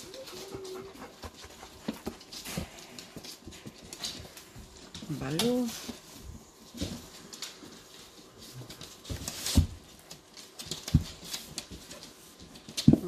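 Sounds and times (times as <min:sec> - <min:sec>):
dog paws pattering on floor: 0:00.0 - 0:13.0.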